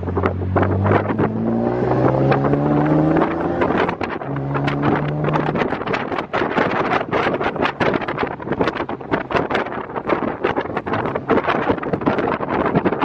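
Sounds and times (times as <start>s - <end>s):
car engine accelerating: 0.0s - 13.0s
wind buffeting microphone: 0.0s - 13.0s.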